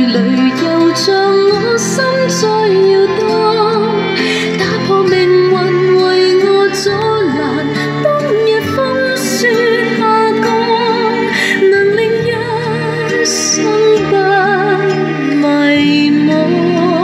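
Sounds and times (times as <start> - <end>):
slow song with sung melody: 0.0 - 17.0.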